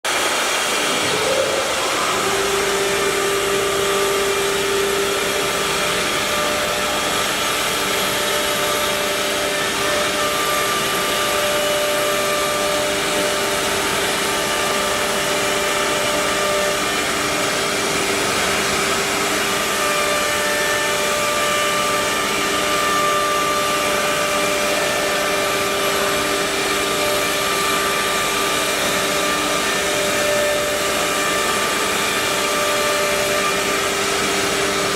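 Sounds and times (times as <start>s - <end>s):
wood router hissing and whining: 0.1s - 34.9s.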